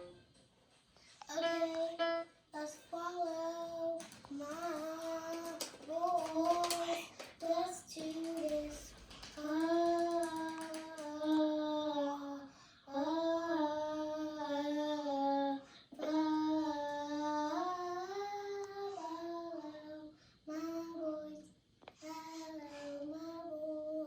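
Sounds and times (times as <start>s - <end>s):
child singing long notes: 1.2s - 21.4s, 22.0s - 24.0s.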